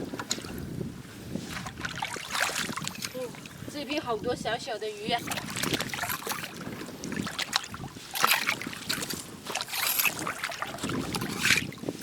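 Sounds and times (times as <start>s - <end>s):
shallow water splashing: 0.0s - 12.0s.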